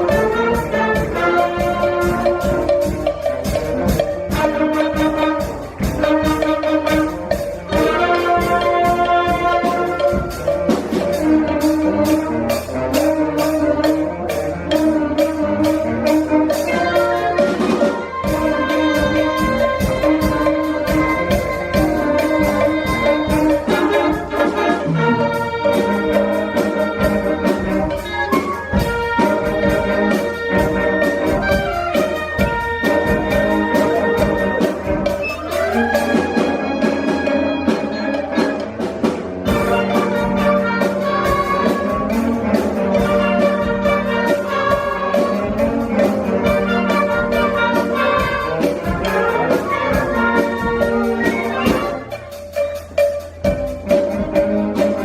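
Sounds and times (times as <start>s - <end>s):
brass instruments holding notes: 0.0s - 55.0s
percussion beat: 0.0s - 55.0s.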